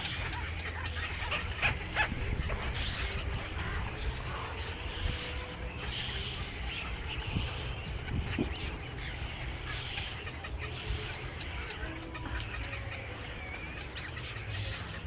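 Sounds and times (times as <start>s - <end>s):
steady low rumble: 0.0s - 14.0s
birds chattering: 0.0s - 15.0s.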